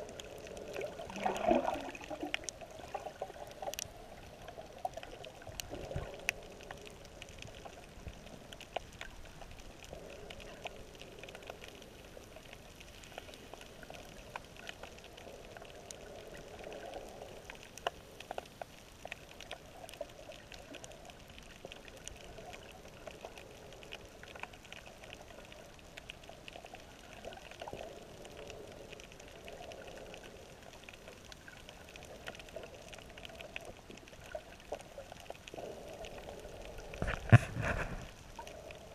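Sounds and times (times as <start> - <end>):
faint scattered clicks: 0.0 - 38.9
muffled underwater wash: 0.0 - 38.9.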